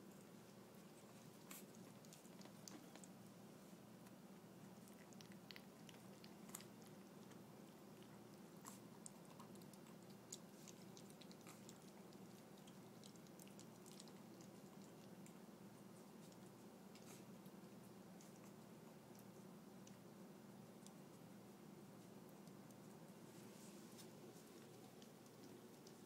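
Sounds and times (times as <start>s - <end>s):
faint low hum: 0.0s - 26.0s
puppies chewing and lapping: 0.0s - 26.0s.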